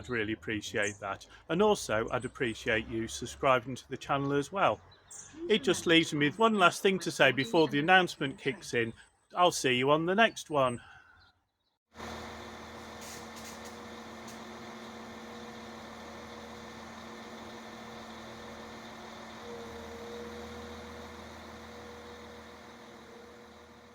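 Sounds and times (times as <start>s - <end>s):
train engine humming: 0.0s - 10.3s, 12.0s - 23.9s.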